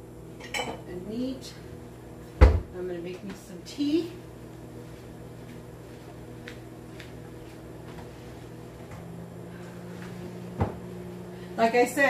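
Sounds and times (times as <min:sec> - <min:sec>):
appliance electrical hum: 0:00.0 - 0:12.0.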